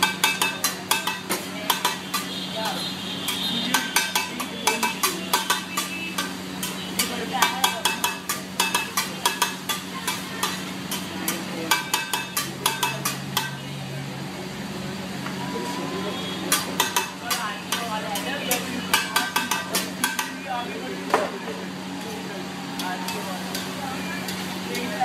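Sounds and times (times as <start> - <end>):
spatulas clanking on griddle: 0.0 - 13.7, 16.5 - 20.5, 22.0 - 25.0.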